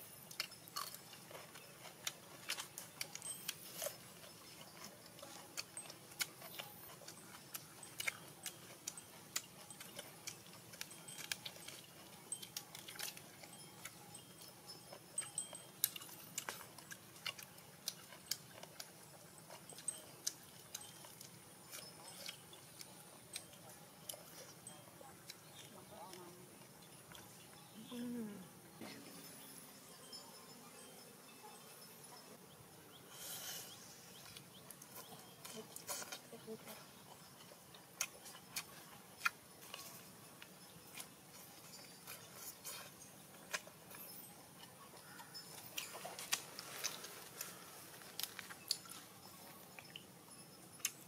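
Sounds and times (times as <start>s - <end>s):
person chewing food: 0.0s - 27.6s, 37.0s - 50.1s, 50.8s - 51.0s.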